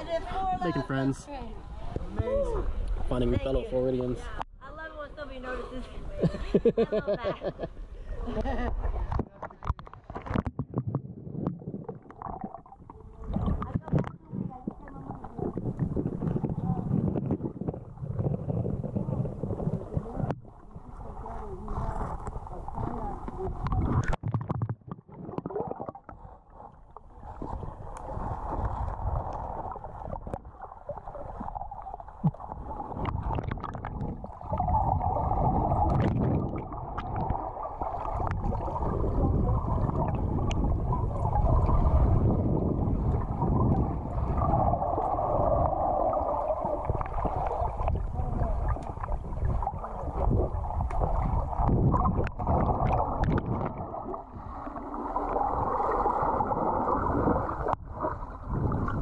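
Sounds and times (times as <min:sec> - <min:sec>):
underwater rushing and gurgling: 0:07.7 - 0:59.0.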